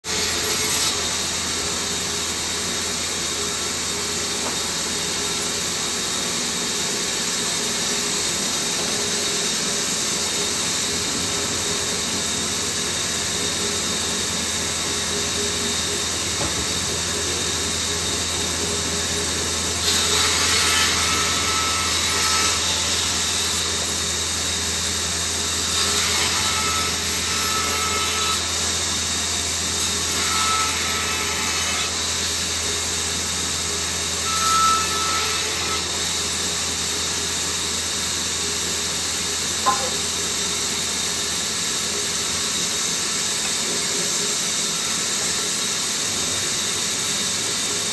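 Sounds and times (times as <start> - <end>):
band saw cutting wood: 0.1 - 47.9.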